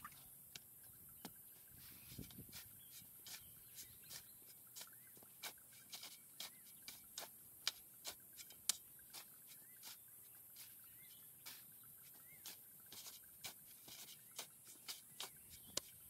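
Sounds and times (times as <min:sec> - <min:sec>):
shovel digging gravelly soil: 0:01.7 - 0:16.0.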